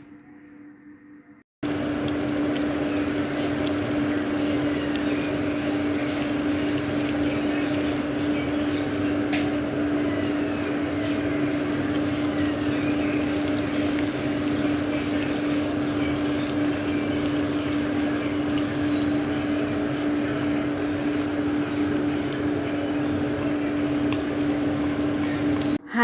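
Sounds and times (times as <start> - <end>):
aubergine sizzling in hot oil: 1.6 - 25.8.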